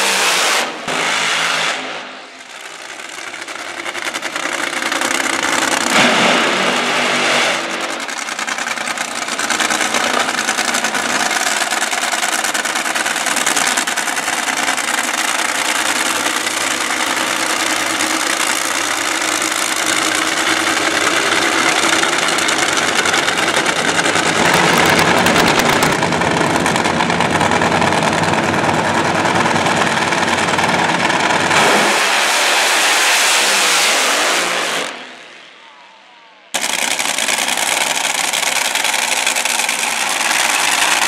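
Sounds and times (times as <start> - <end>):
loud racing car engines: 0.0 - 41.0
rapid engine crackling: 2.4 - 32.8, 36.5 - 41.0.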